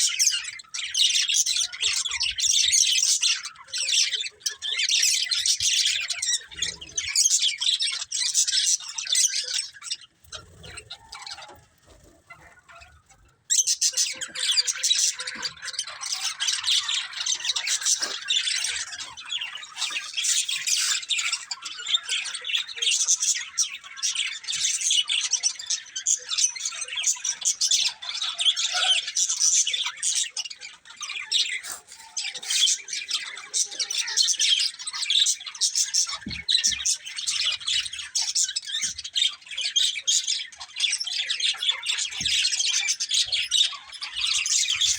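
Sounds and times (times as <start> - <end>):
budgies chirping and chattering: 0.0 - 44.9.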